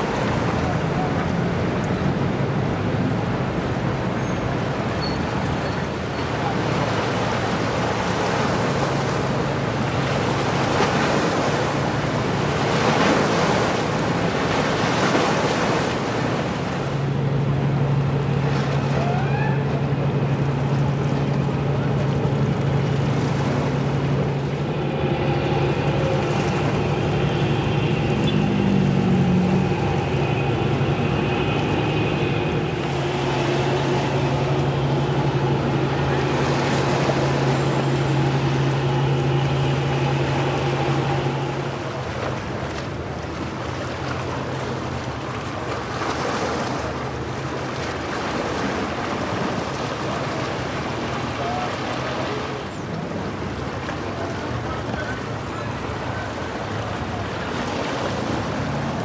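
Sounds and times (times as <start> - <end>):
ship engines droning: 0.0 - 59.0
water noise: 0.0 - 59.0
wind: 0.0 - 59.0.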